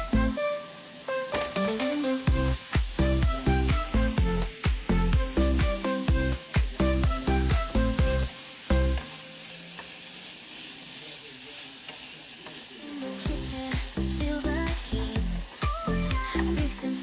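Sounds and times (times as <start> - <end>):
beat-driven music: 0.0 - 9.7, 13.0 - 17.0
food sizzling in a pan: 0.0 - 17.0.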